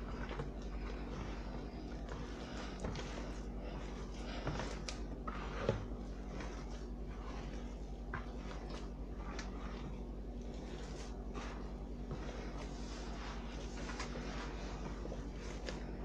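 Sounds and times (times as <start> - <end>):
hand squishing dough: 0.0 - 16.0
steady low hum: 0.0 - 16.0.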